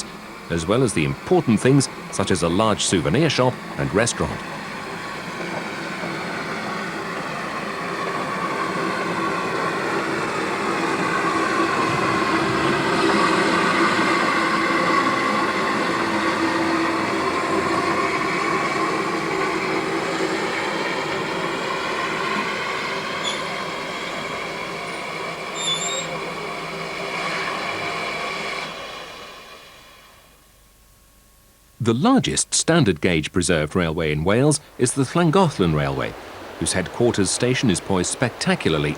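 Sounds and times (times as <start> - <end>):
train running past: 0.0 - 30.6, 31.8 - 38.9.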